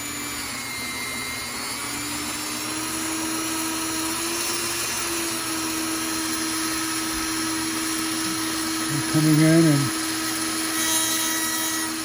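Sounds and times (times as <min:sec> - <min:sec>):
rotary tool whining: 0:00.0 - 0:12.0.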